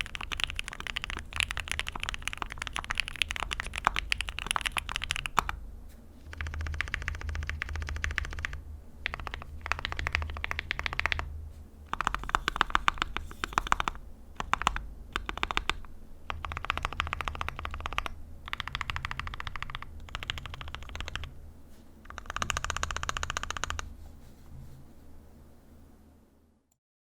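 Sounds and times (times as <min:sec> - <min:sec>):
mechanical keyboard typing: 0:00.0 - 0:05.6, 0:06.3 - 0:11.3, 0:11.9 - 0:21.3, 0:22.1 - 0:23.9.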